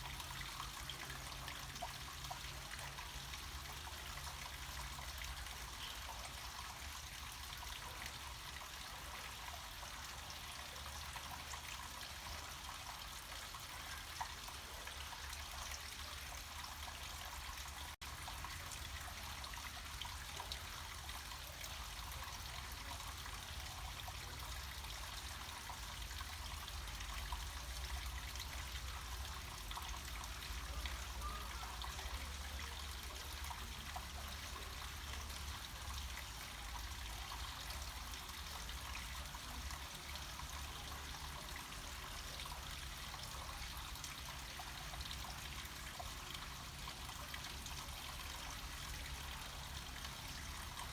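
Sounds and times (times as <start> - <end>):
stream water flowing and splashing: 0.0 - 50.9.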